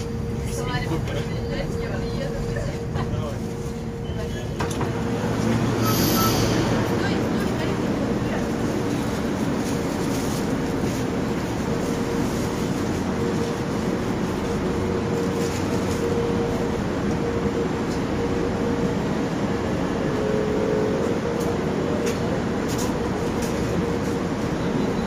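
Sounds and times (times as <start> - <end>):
metro car hum: 0.0 - 25.0.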